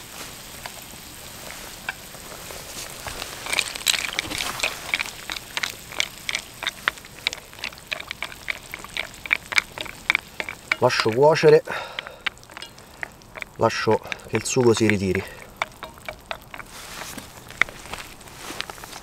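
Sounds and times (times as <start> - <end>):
sauce simmering in a frying pan: 0.0 - 19.0
wooden spoon scraping a pan: 0.6 - 19.0.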